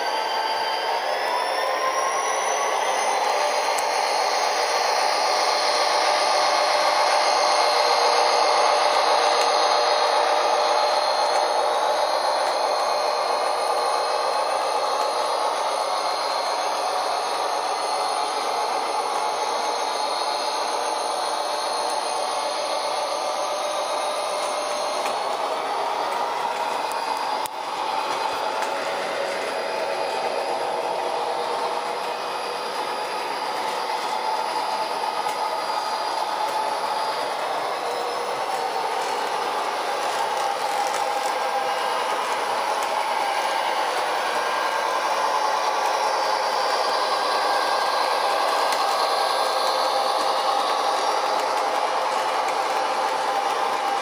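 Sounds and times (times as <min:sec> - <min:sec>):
model train motor whirring: 0:00.0 - 0:54.0.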